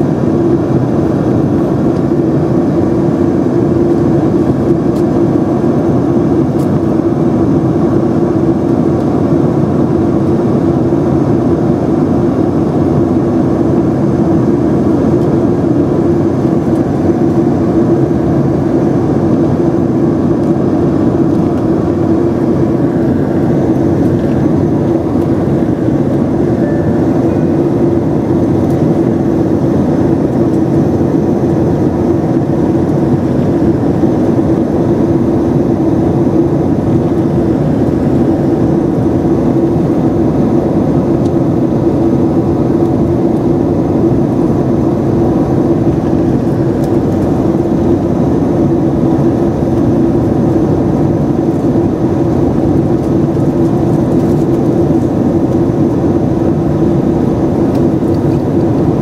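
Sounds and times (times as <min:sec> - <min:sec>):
airplane cabin engine drone: 0:00.0 - 0:59.0
air rushing over fuselage: 0:11.6 - 0:59.0.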